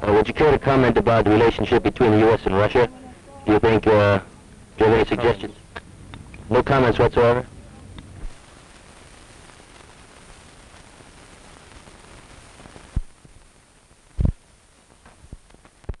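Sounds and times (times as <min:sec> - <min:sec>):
old film soundtrack hiss and hum: 0:00.0 - 0:16.0.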